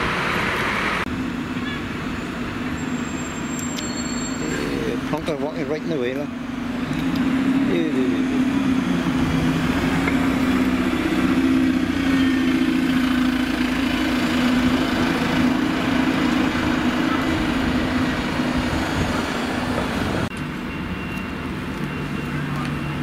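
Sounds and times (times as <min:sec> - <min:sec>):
bus engine hum: 0:00.0 - 0:23.0
road noise: 0:00.0 - 0:23.0.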